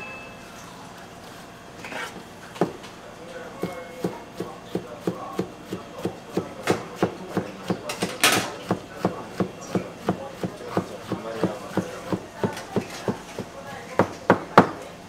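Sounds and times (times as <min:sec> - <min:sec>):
knife chopping on plastic cutting board: 0:01.9 - 0:02.8, 0:03.6 - 0:14.8.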